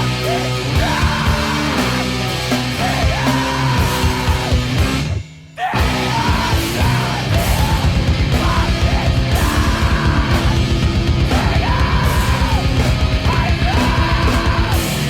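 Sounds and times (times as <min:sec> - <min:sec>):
heavy rock music: 0:00.0 - 0:15.0
yelled vocals: 0:00.0 - 0:15.0.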